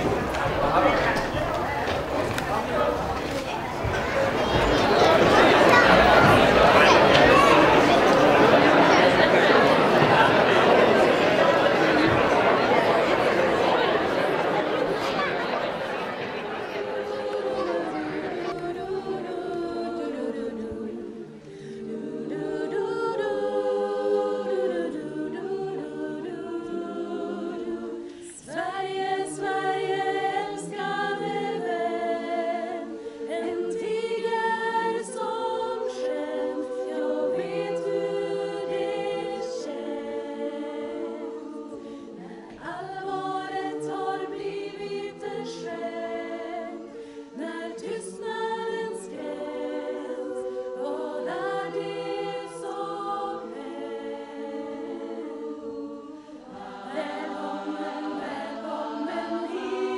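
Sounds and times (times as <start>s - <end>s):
women's chorus singing a cappella: 0.0s - 59.9s.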